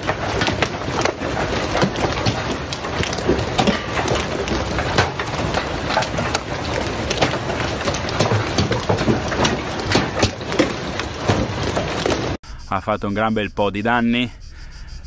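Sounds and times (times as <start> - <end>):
hail clattering: 0.0 - 12.4.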